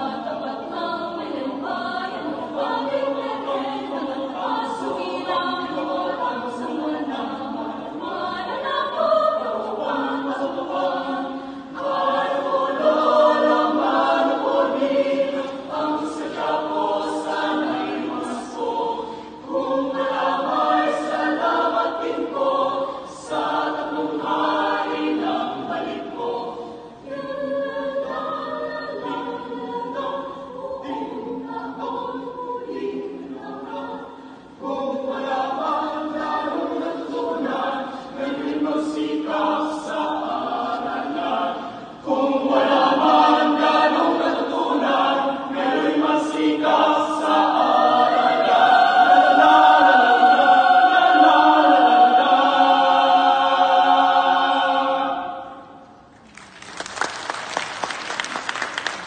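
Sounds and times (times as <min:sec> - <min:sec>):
mixed choir singing a cappella: 0:00.0 - 0:56.1.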